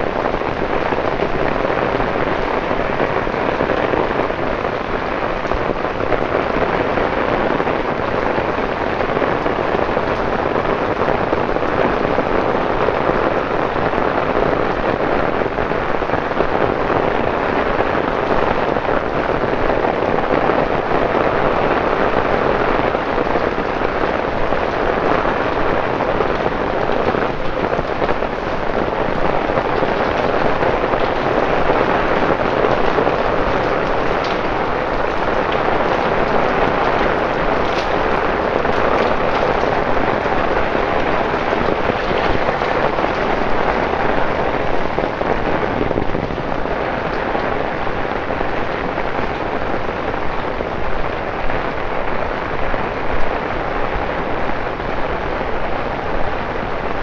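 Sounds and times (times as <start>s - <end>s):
heavy rain on wet paving: 0.0s - 57.0s.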